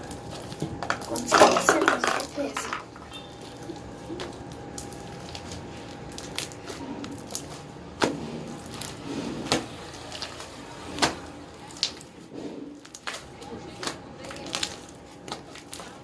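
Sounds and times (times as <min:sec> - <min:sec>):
slime squishing: 0:00.0 - 0:01.6, 0:02.3 - 0:16.0.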